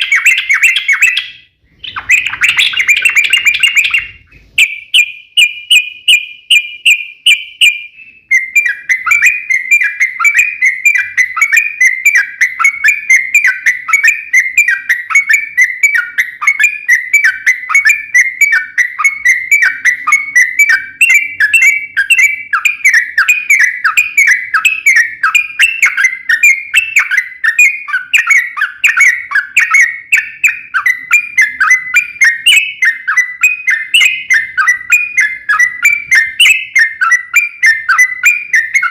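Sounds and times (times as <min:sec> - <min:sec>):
bird singing fast chirping notes: 0:00.0 - 0:38.9.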